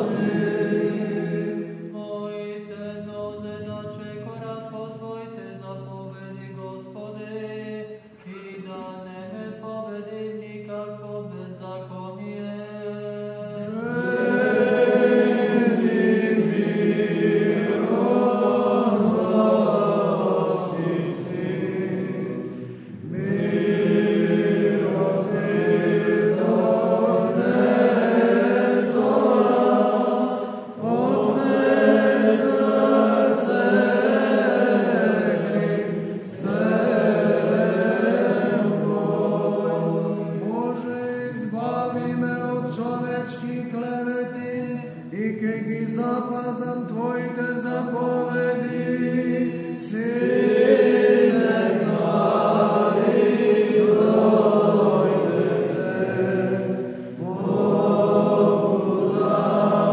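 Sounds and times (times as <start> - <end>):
male choir chanting a cappella: 0.0 - 59.9.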